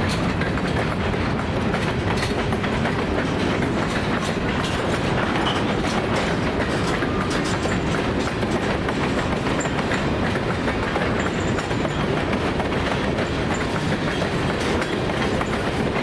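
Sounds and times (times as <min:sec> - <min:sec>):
freight train rumbling: 0:00.0 - 0:16.0
wheels clicking over rail joints: 0:00.0 - 0:16.0.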